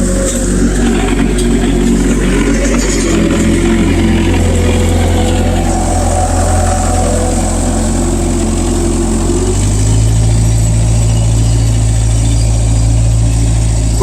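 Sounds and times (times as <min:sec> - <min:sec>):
skid steer diesel engine running: 0:00.0 - 0:14.0.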